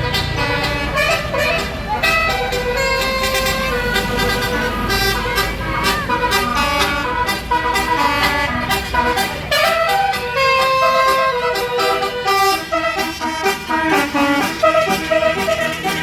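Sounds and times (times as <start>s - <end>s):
bus engine rumble: 0.0s - 16.0s
bus horn playing melody: 0.0s - 16.0s.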